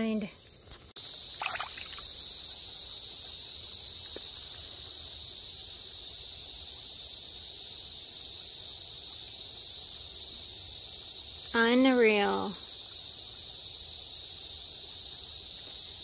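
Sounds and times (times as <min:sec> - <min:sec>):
insects chorus: 0:00.0 - 0:16.0.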